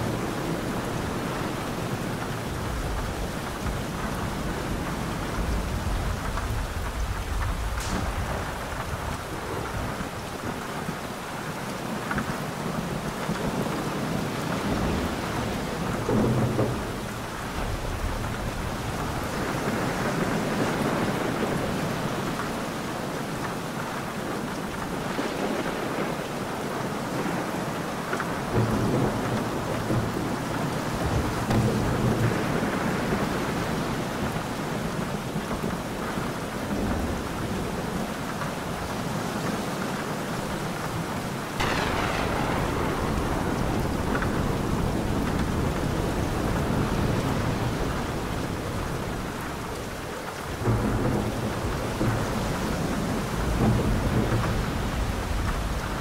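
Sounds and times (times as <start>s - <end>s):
rolling thunder: 0.0s - 11.3s, 13.5s - 22.8s, 26.8s - 38.2s, 40.3s - 56.0s
heavy rain: 0.0s - 56.0s.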